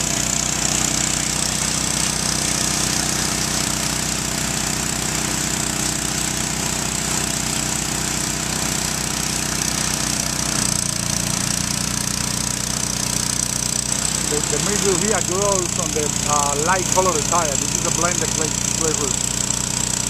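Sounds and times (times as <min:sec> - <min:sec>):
pressure washer engine running: 0:00.0 - 0:20.0.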